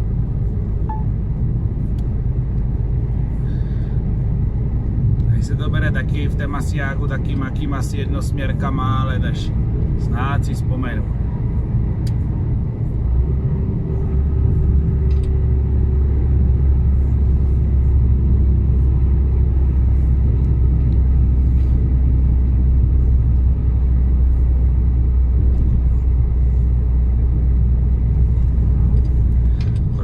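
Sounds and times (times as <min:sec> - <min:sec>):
road noise: 0:00.0 - 0:30.0
truck diesel engine droning: 0:00.0 - 0:30.0.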